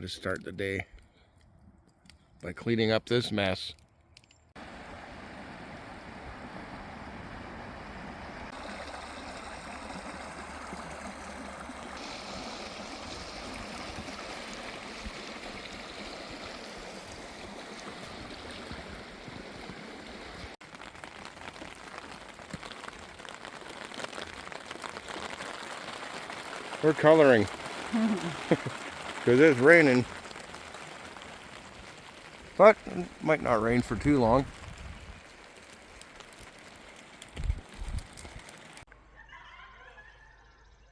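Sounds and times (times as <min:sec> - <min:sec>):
rushing hiss of water: 0:04.6 - 0:22.5, 0:23.4 - 0:38.9
rain falling on a surface: 0:04.6 - 0:38.9.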